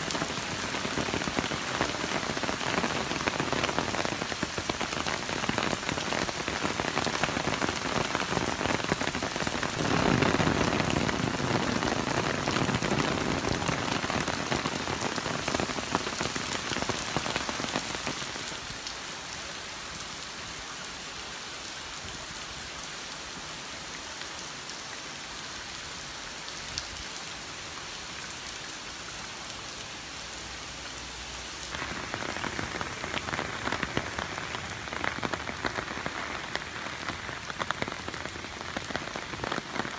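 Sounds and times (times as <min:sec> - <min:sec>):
heavy rain on wet pavement: 0:00.0 - 0:39.9.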